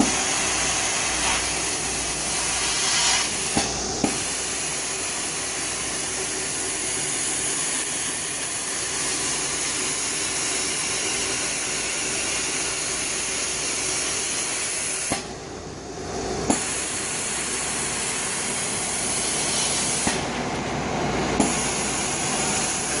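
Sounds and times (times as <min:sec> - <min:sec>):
cutting machine air hiss: 0:00.0 - 0:23.0.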